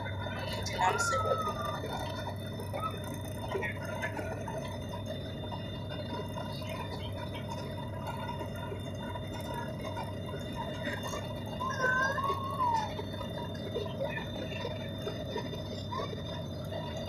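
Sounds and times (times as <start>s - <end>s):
airliner engine and airflow drone: 0.0s - 17.0s.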